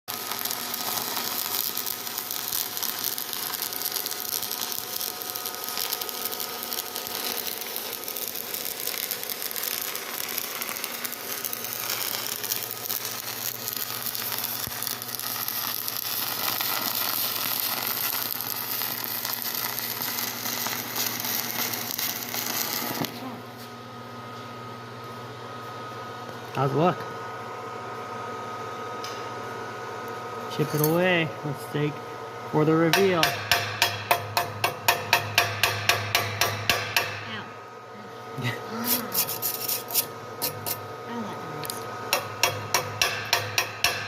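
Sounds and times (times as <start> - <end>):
welding arc crackling and sizzling: 0.0 - 23.7, 29.9 - 37.5, 38.4 - 44.0.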